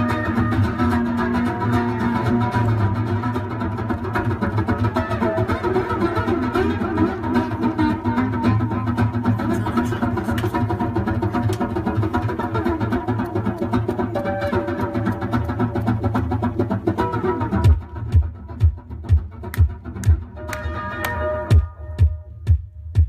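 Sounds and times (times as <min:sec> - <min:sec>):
experimental drone music: 0:00.0 - 0:23.0.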